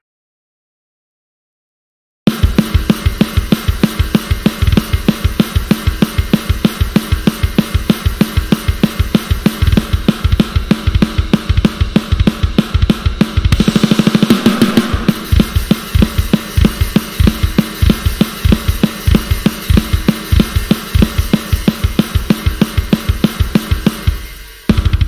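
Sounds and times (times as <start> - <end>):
hi-hat and cymbals: 2.3 - 25.0
rapid bass drum strokes: 2.3 - 25.0.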